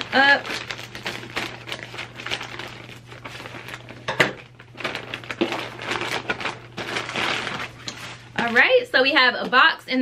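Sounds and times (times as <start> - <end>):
plastic bag rustling: 0.0 - 9.2.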